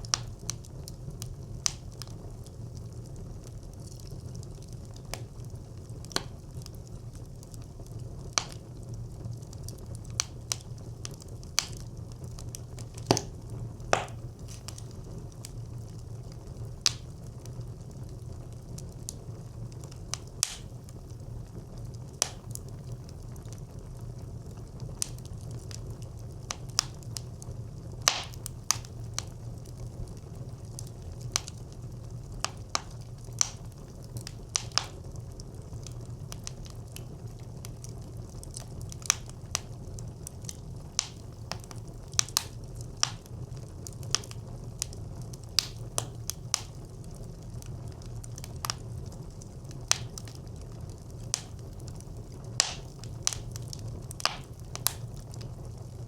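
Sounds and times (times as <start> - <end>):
burning wood popping and crackling: 0.0 - 56.0
fire flames rumbling: 0.0 - 56.0.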